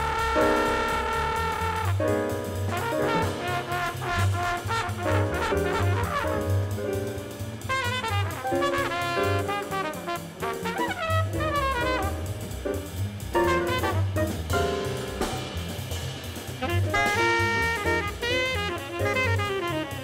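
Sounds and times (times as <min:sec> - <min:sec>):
horn solo: 0:00.0 - 0:12.8, 0:13.4 - 0:15.4, 0:16.6 - 0:20.0
fast jazz quintet: 0:00.0 - 0:20.0.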